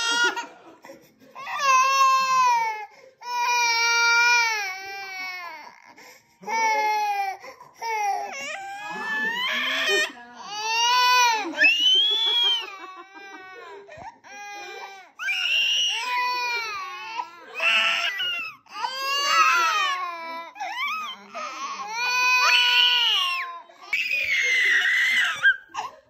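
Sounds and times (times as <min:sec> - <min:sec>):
baby crying: 0:00.0 - 0:00.6, 0:01.4 - 0:26.0.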